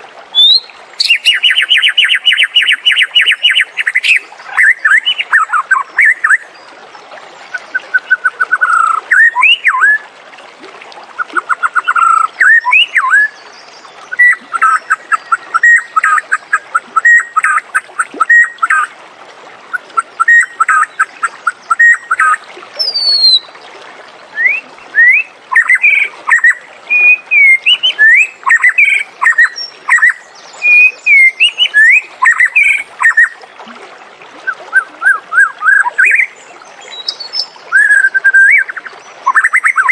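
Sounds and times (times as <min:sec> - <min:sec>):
bird singing whistled song: 0:00.3 - 0:06.4, 0:07.7 - 0:10.0, 0:11.5 - 0:13.4, 0:14.1 - 0:17.6, 0:18.2 - 0:18.9, 0:20.2 - 0:23.5, 0:24.3 - 0:33.4, 0:34.4 - 0:39.9.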